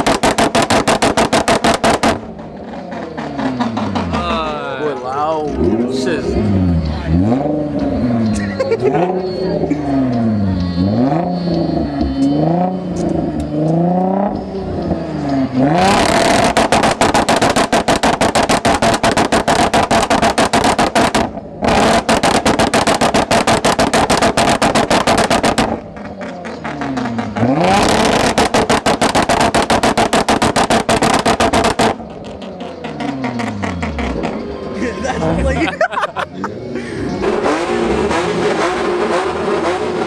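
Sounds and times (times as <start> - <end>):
car engine revving loudly: 0.0 - 4.6, 5.4 - 40.0.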